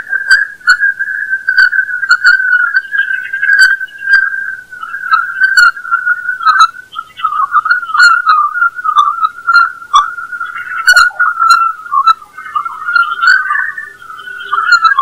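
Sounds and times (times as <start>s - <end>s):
wavering whistle-like tone: 0.0s - 15.0s.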